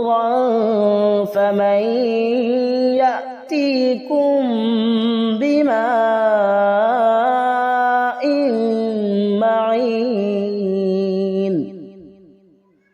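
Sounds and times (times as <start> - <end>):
man chanting recitation: 0.0 - 12.4.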